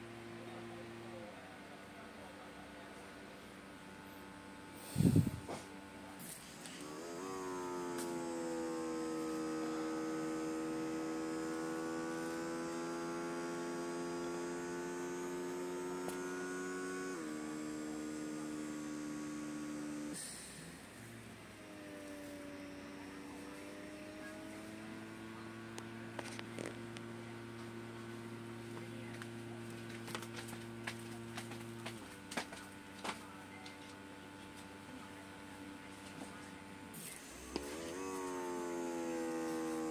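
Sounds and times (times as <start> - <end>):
small air pump humming: 0.0 - 39.9.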